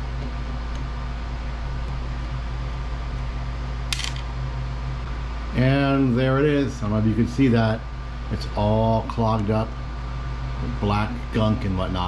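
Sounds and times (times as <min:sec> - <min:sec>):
cooling fans humming: 0:00.0 - 0:12.0.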